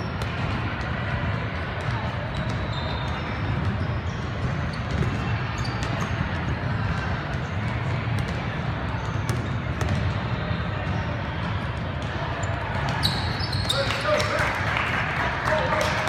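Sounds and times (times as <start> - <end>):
low rumble of large hall: 0.0 - 16.0
murmur of voices: 0.0 - 16.0.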